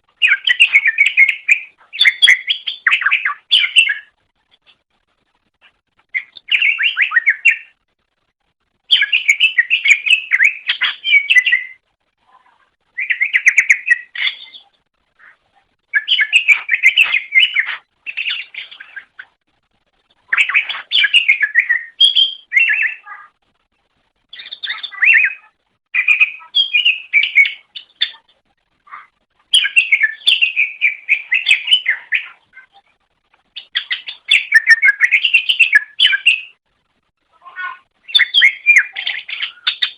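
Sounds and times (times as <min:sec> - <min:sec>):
bird singing rapid phrases: 0:00.0 - 0:04.8, 0:05.5 - 0:07.8, 0:08.7 - 0:19.4, 0:20.0 - 0:23.4, 0:24.1 - 0:36.6, 0:37.3 - 0:39.9.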